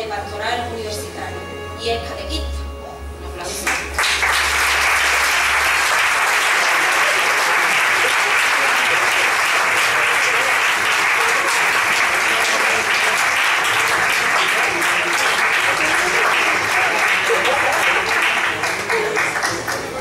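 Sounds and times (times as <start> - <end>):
audience applauding: 3.6 - 20.0.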